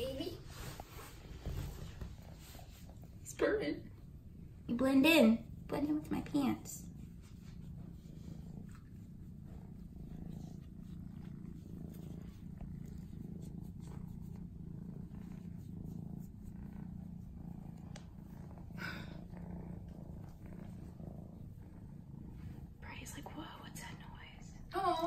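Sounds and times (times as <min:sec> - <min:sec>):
kitten purring: 0:00.0 - 0:25.0.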